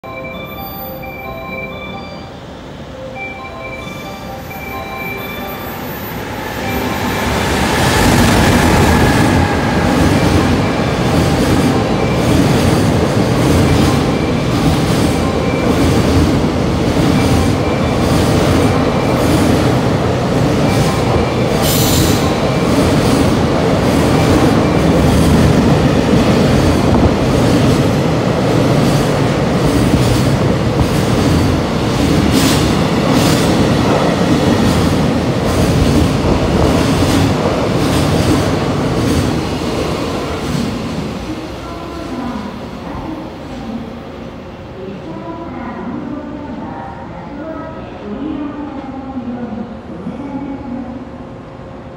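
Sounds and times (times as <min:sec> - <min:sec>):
freight train passing: 0:00.1 - 0:51.9.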